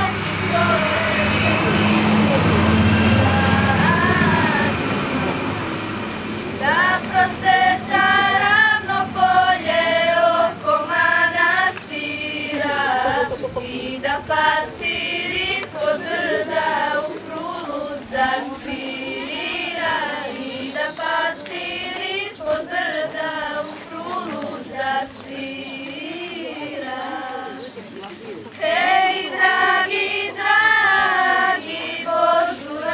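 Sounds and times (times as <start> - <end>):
girls singing unaccompanied: 0.0 - 27.8, 28.5 - 32.9.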